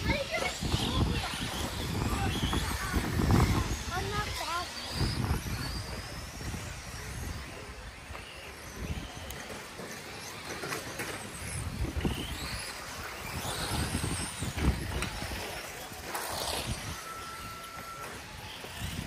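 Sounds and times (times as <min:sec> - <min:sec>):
electric rc truck motors whining: 0:00.0 - 0:19.0.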